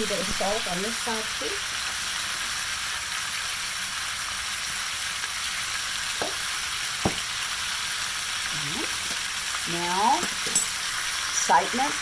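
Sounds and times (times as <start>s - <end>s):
chicken sizzling in skillet: 0.0s - 12.0s.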